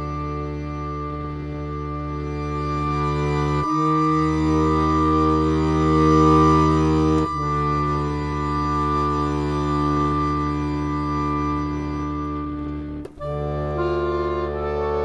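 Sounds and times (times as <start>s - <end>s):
music of long held chords: 0.0s - 15.0s.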